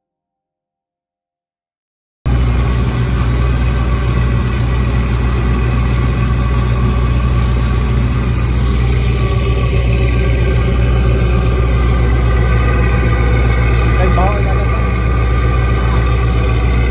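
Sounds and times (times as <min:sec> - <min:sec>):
boat engine droning: 0:02.3 - 0:16.9
propeller wash churning: 0:02.3 - 0:16.9.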